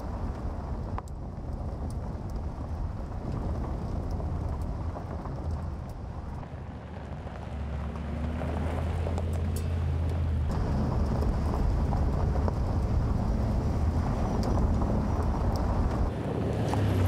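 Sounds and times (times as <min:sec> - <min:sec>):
car engine drone: 0:00.0 - 0:17.0
tyres rumbling on loose dirt: 0:00.0 - 0:17.0.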